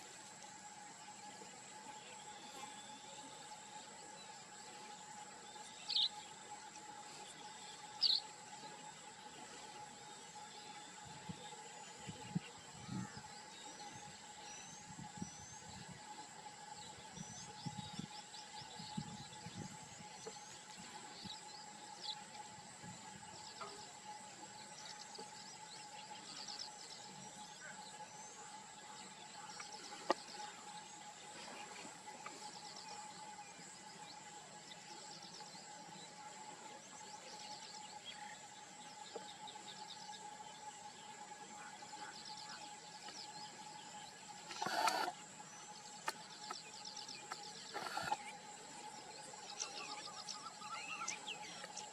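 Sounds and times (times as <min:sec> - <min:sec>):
birds chirping: 0:00.0 - 0:51.9
insect drone: 0:00.0 - 0:51.9.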